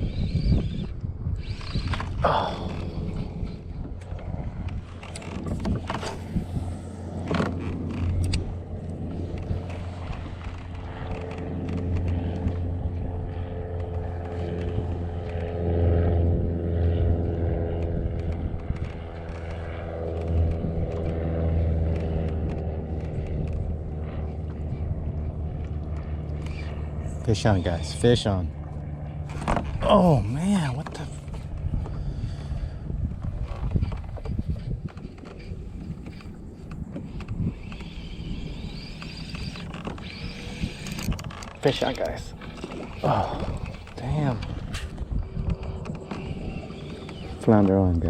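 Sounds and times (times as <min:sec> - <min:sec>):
boat engine droning: 0:00.0 - 0:48.0.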